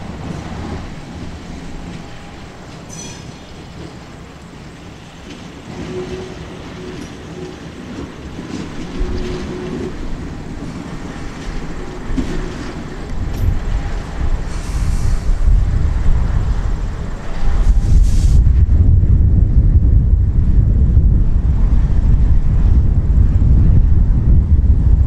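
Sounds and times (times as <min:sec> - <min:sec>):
diesel locomotive engine rumbling: 0:00.0 - 0:25.0
wind buffeting microphone: 0:00.0 - 0:25.0.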